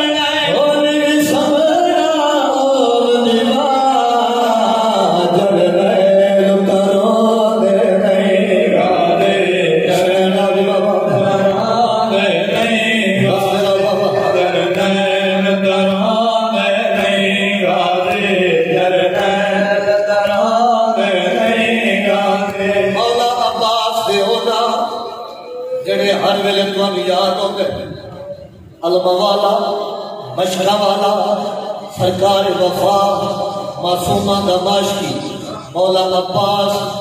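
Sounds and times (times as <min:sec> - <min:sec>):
men chanting into microphones: 0:00.0 - 0:37.0.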